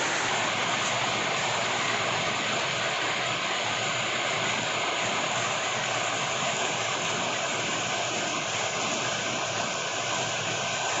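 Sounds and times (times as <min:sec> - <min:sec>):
rain on leafy trees: 0:00.0 - 0:11.0
rain on metal roofs: 0:00.0 - 0:11.0.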